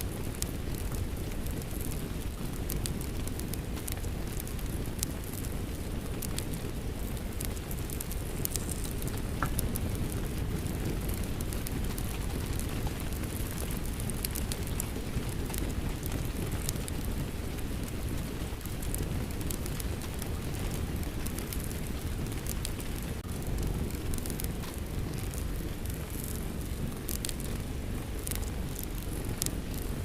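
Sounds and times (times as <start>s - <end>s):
steady rain: 0.0s - 30.0s
wood fire crackling: 0.0s - 30.0s.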